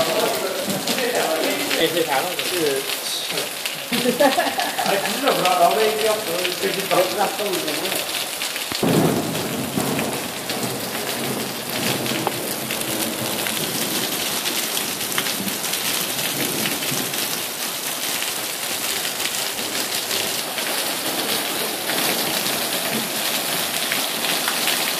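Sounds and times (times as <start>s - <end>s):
heavy rain on asphalt: 0.0s - 24.9s.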